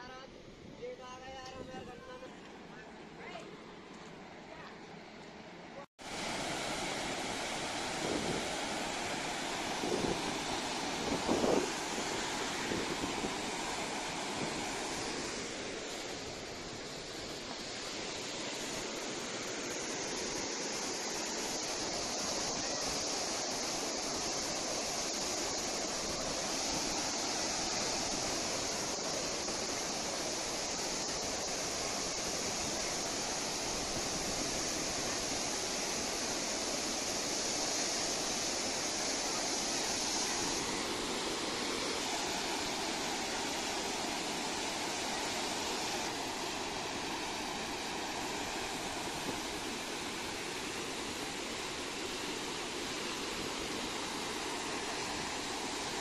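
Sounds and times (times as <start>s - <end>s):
waterfall rushing over rock: 6.0s - 56.0s.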